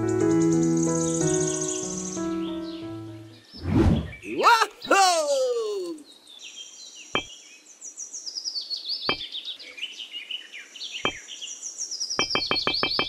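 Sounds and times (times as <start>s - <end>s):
birds chirping and trilling: 0.0s - 4.9s, 5.9s - 13.0s.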